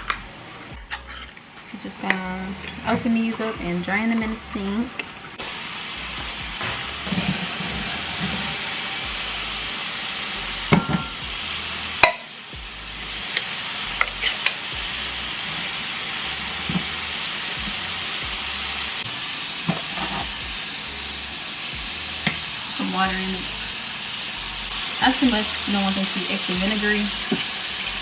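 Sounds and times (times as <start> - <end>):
meat sizzling in a frying pan: 0.0 - 28.0.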